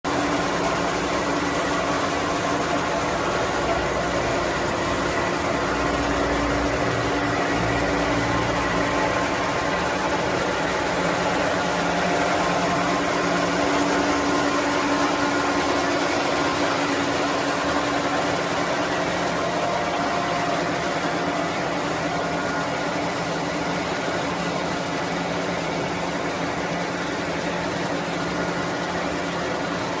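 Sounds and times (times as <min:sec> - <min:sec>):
machine humming with hiss: 0:00.1 - 0:30.0.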